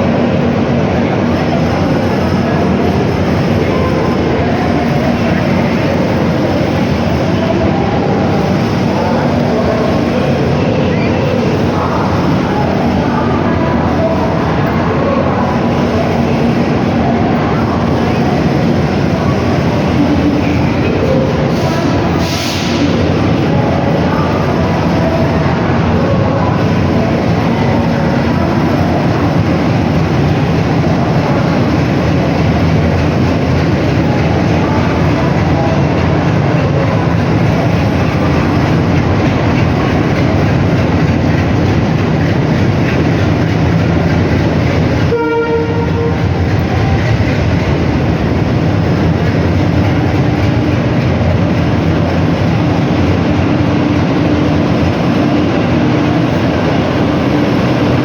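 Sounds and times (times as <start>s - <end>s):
diesel locomotive engine: 0.0s - 58.0s
train rumbling on rails: 0.0s - 58.0s.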